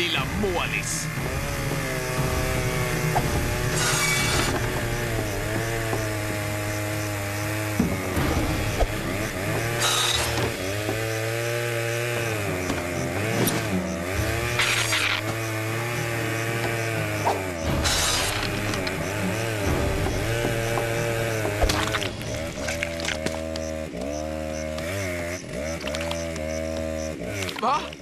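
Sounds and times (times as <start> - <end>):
cartoon chainsaw engine running: 0.0 - 28.0.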